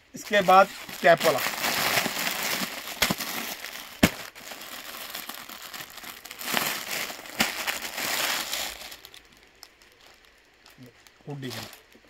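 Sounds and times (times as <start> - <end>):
plastic packaging crinkling: 0.2 - 12.0.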